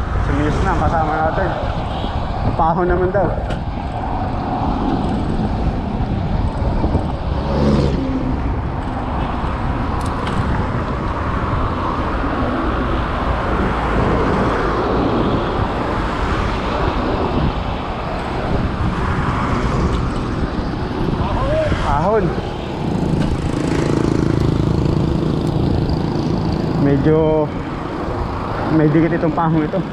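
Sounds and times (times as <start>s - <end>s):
road traffic rumble: 0.0s - 29.9s
vehicle passing: 0.0s - 29.9s.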